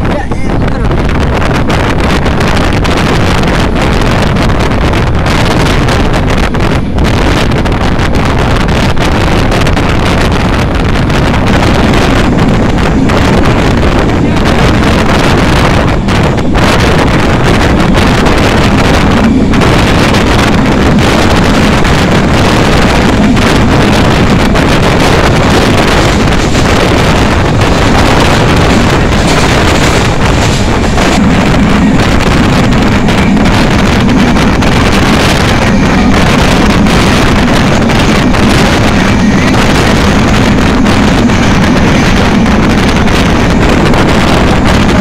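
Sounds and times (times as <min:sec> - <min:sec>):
vehicle low rumble: 0:00.0 - 0:45.0
wind buffeting microphone: 0:00.0 - 0:45.0.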